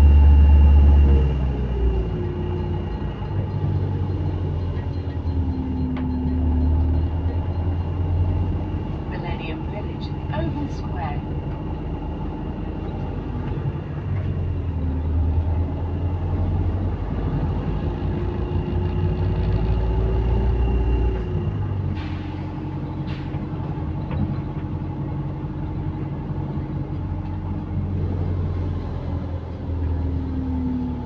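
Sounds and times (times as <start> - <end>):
diesel bus engine running: 0.0 - 31.0.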